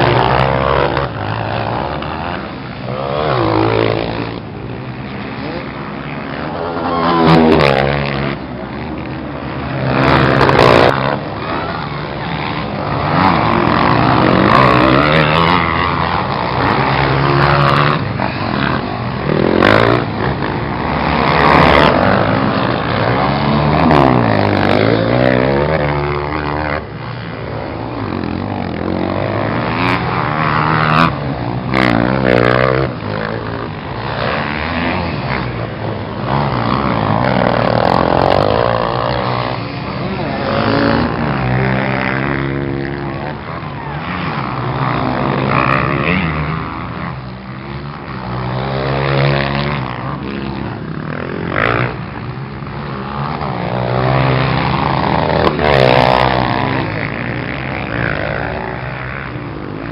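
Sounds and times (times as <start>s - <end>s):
motorcycles revving: 0.0s - 59.9s.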